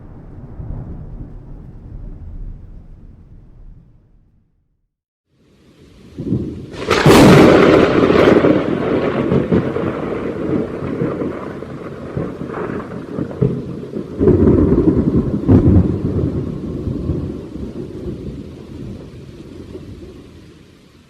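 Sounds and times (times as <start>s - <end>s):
sharp crack of lightning: 0.0s - 4.5s, 6.1s - 20.3s
rolling thunder rumble: 0.0s - 4.9s, 6.2s - 20.3s.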